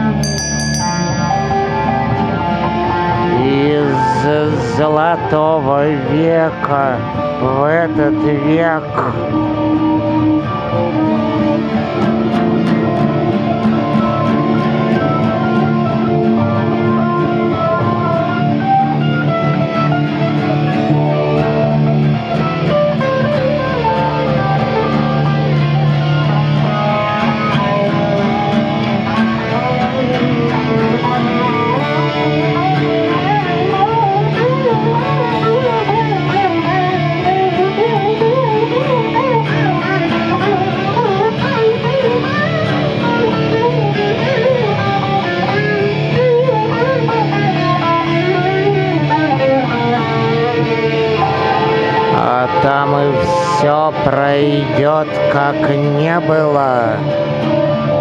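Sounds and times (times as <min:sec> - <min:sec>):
electric and acoustic guitars: 0:00.0 - 0:58.0
lead guitar with bent notes: 0:00.0 - 0:58.0.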